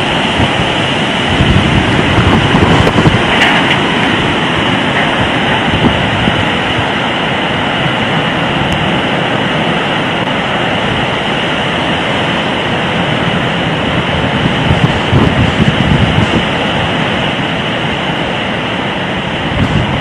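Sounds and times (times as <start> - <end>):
storm wind roaring: 0.0 - 20.0.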